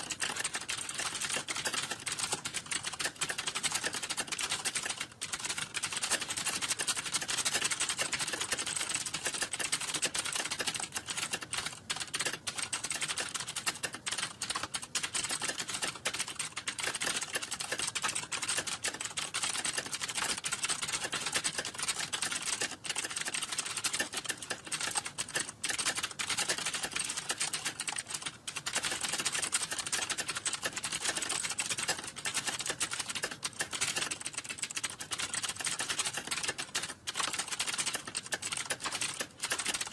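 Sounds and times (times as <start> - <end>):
fast typing on computer keyboard: 0.0 - 39.9.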